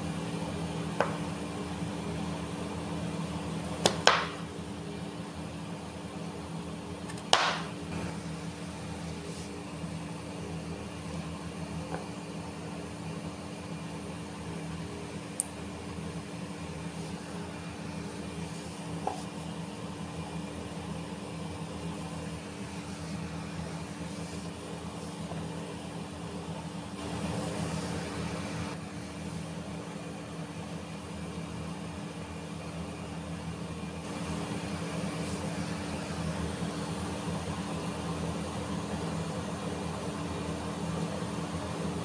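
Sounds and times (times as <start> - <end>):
mechanical hum with hiss: 0.0 - 42.0.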